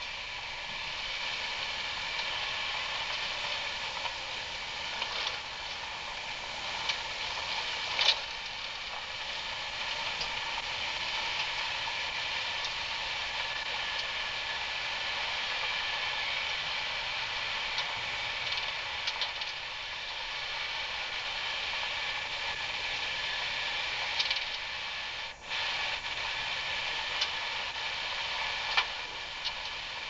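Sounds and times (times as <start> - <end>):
vehicle driving on dirt trail: 0.0 - 24.9.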